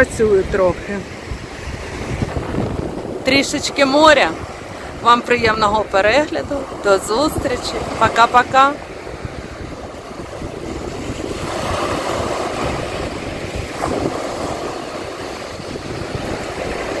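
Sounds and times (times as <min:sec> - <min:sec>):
waves breaking on beach: 0:00.0 - 0:17.0
wind on microphone: 0:00.0 - 0:17.0.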